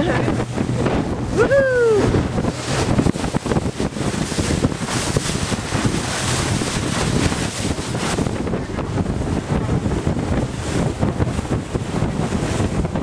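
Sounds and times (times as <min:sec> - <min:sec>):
boat motor humming: 0:00.0 - 0:13.0
wind buffeting microphone: 0:00.0 - 0:13.0.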